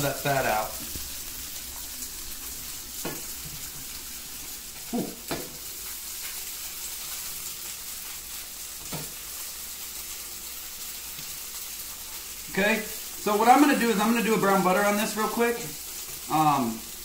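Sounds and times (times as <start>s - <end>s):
gnocchi sizzling in oil: 0.0s - 17.0s.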